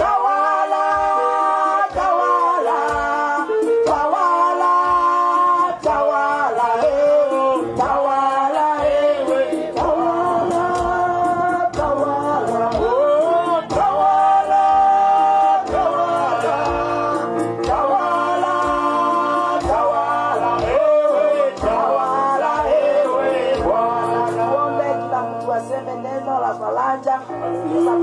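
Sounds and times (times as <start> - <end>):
steady beat: 0.0 - 24.6
person singing a hymn: 0.0 - 28.0.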